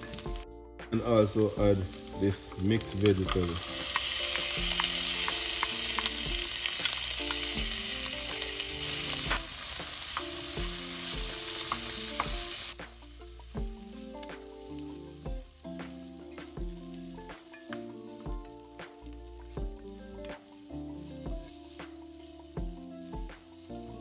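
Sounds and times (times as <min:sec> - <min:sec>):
vegetables sizzling in oil: 0:00.0 - 0:00.4, 0:01.0 - 0:24.0.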